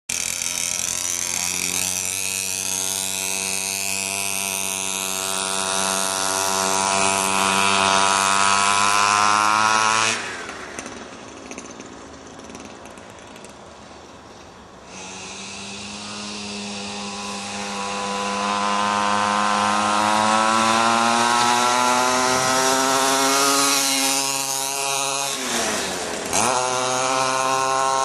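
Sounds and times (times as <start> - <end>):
pocket bike engine revving: 0.1 - 28.0.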